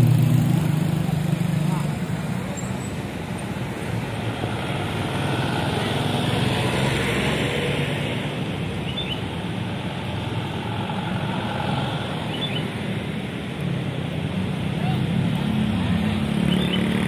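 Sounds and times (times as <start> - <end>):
tyre noise on road: 0.0 - 17.0
vehicle engines passing: 0.0 - 17.0.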